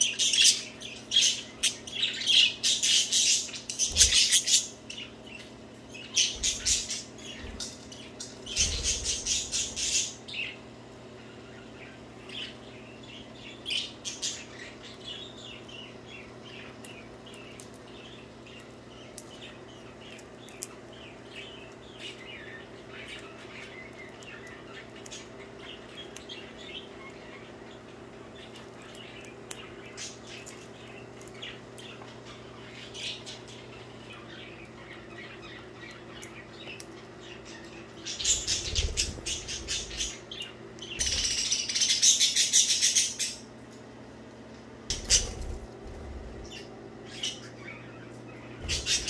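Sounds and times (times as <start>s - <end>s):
budgerigars chattering and warbling: 0.0s - 10.7s, 11.3s - 43.5s, 44.9s - 49.0s.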